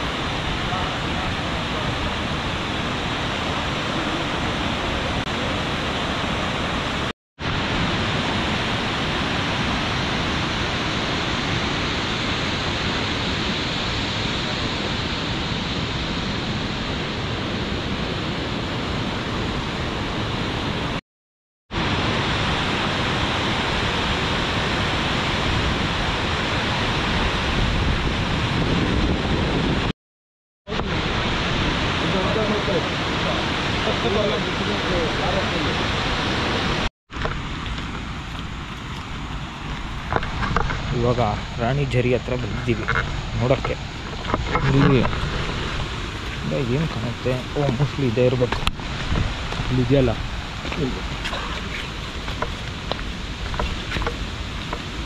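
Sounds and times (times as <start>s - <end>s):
waterfall roaring: 0.0s - 21.0s, 21.8s - 29.9s, 30.7s - 55.0s.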